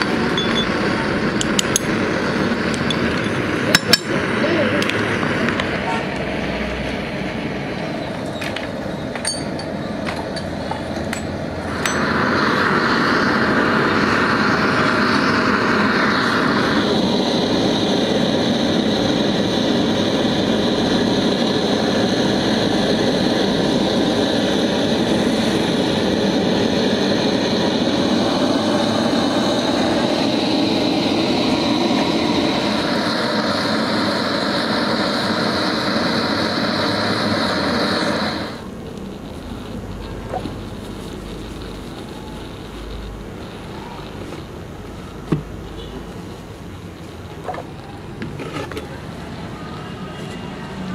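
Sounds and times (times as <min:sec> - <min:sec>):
gas torch flame hissing: 0:00.0 - 0:50.9.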